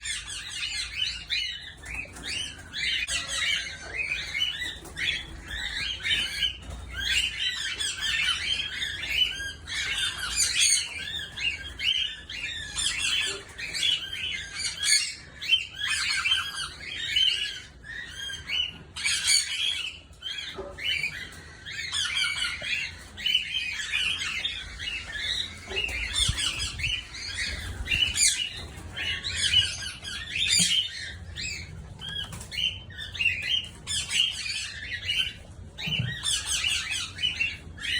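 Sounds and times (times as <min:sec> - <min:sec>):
cockatiels chirping and squawking: 0:00.0 - 0:37.9.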